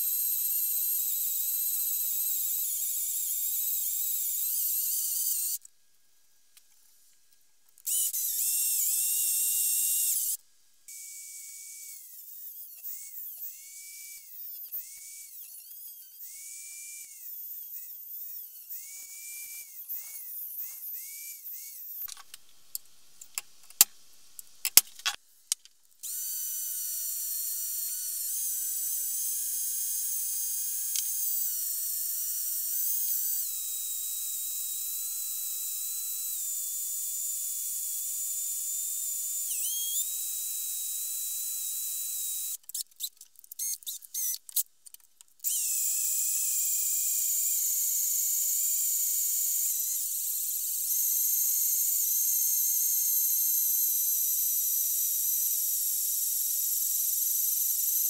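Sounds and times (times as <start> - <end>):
electric drill boring into steel: 0.0 - 5.7, 7.9 - 22.1, 26.0 - 44.6, 45.4 - 58.0
rotary tool grinding steel: 0.0 - 5.7, 7.8 - 22.1, 26.0 - 44.7, 45.4 - 58.0.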